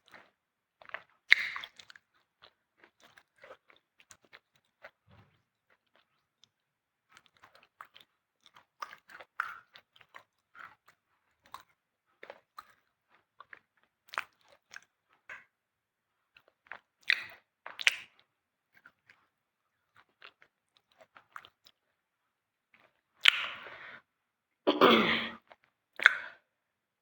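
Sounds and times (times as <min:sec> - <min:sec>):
crunching and chewing: 0:00.0 - 0:22.0, 0:22.7 - 0:23.8, 0:25.4 - 0:26.4.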